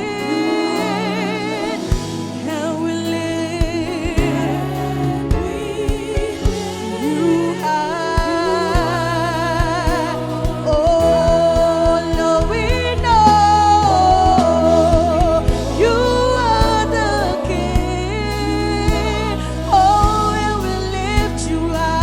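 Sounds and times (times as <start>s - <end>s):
gospel band playing: 0.0s - 22.0s.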